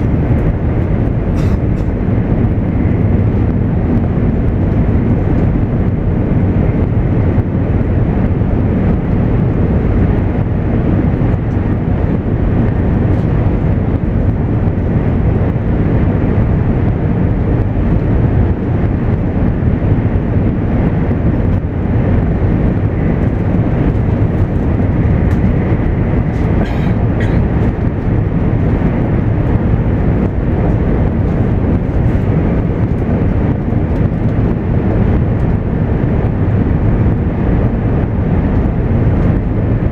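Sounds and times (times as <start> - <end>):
train rumbling in motion: 0.0 - 39.9.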